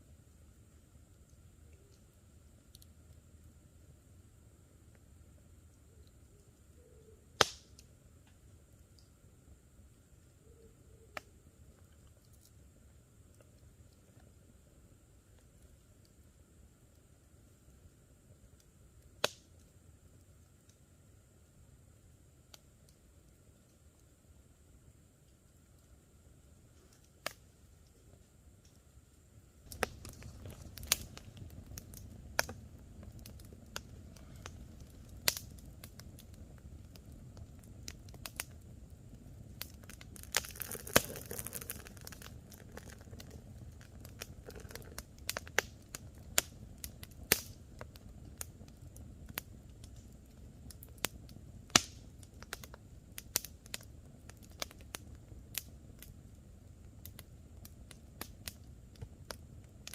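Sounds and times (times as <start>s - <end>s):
low rumble of flames: 0.0s - 59.9s
campfire snaps and pops: 0.2s - 3.9s, 4.8s - 9.2s, 11.0s - 20.9s, 22.4s - 24.2s, 25.2s - 29.0s, 29.6s - 59.9s.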